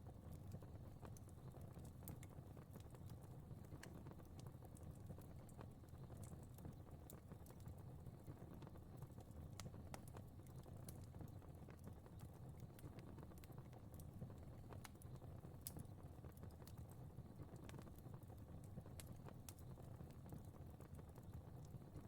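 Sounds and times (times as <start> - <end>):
faint fireplace fire crackling: 0.0 - 22.0.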